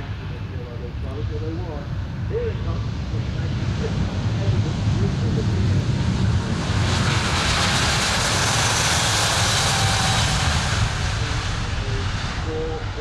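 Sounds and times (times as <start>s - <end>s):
jet engines low rumble: 0.0s - 13.0s.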